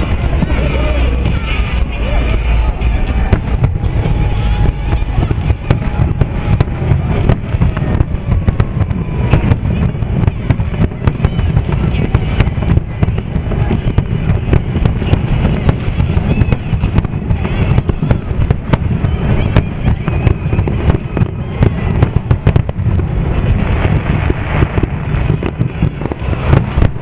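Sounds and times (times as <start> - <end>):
fireworks bangs and crackles: 0.0 - 27.0
music playing: 0.0 - 27.0.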